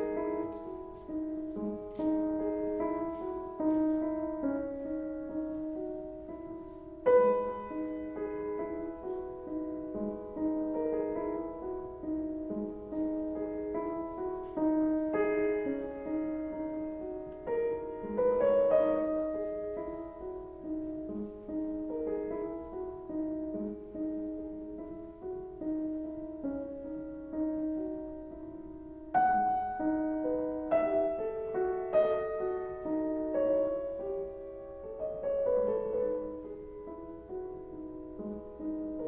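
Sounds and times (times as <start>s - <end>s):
slow classical piano: 0.0s - 39.0s.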